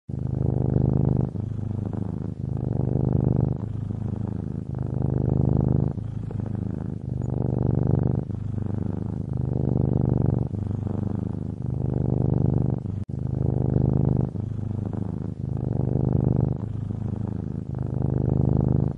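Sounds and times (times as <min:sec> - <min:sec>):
cat purring: 0:00.1 - 0:18.9.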